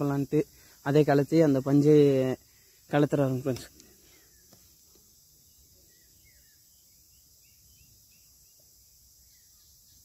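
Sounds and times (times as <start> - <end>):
faint chirps: 0.0 - 10.0.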